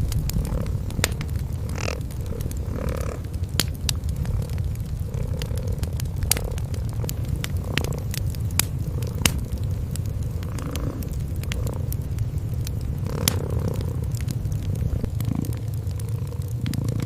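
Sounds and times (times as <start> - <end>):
cats purring: 0.0 - 17.0
wood fire crackling and popping: 0.0 - 17.0.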